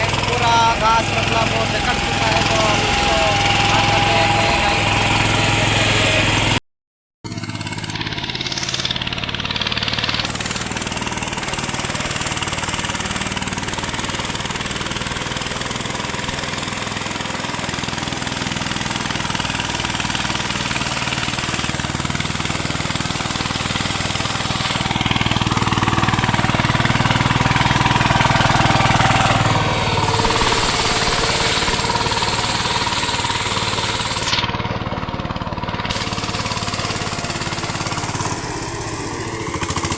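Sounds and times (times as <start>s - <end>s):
diesel tiller engine running: 0.0s - 6.6s, 7.3s - 39.9s.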